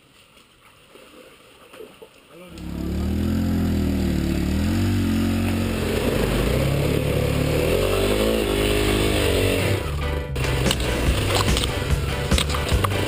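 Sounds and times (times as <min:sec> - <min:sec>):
dirt bike engine revving: 0:02.5 - 0:13.0.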